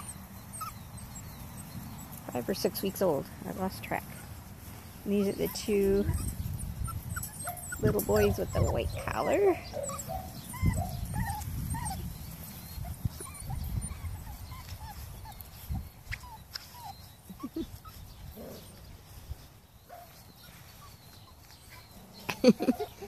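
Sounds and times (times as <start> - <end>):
puppies whimpering and yipping: 0.0 - 23.0.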